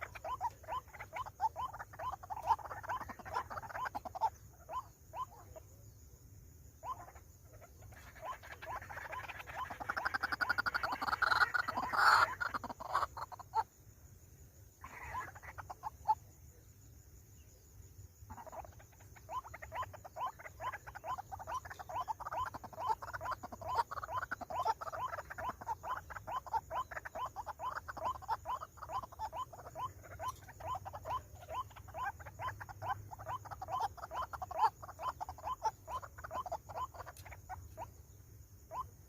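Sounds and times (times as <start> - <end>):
waterhen croaking calls: 0.0 - 5.6, 6.8 - 13.7, 14.8 - 16.3, 18.3 - 38.0, 38.7 - 38.9.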